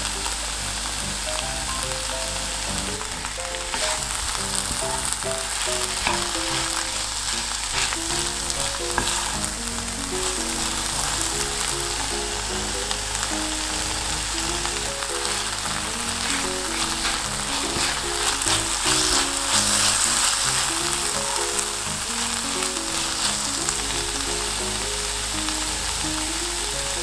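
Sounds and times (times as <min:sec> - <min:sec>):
background music: 0:00.0 - 0:27.0
food sizzling in a frying pan: 0:00.0 - 0:27.0.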